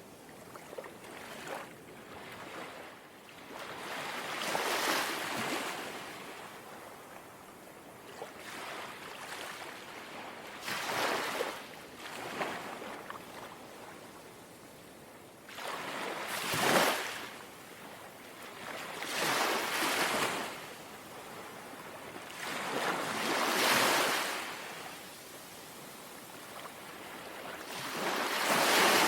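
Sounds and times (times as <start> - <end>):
small sea waves lapping: 0.4 - 6.8, 8.0 - 14.3, 15.5 - 29.0.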